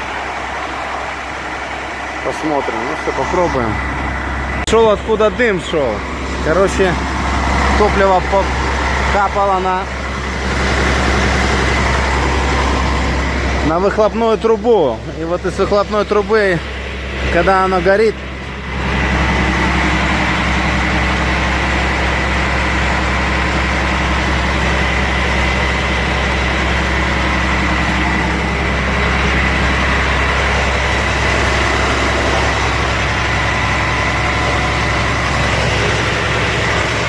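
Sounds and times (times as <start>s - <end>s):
diesel truck engine idling: 0.0s - 37.0s.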